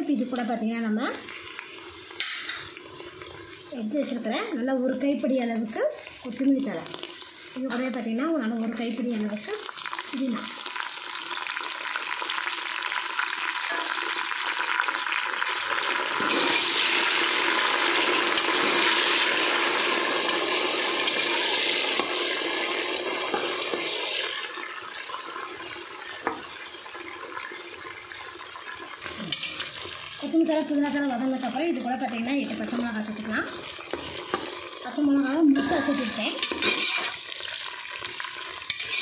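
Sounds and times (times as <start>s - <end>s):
leaves and onions sizzling in oil: 0.0s - 39.0s.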